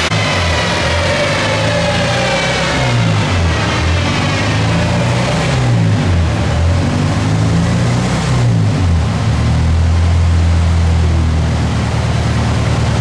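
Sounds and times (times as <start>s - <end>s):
engine winding down: 0.0s - 13.0s.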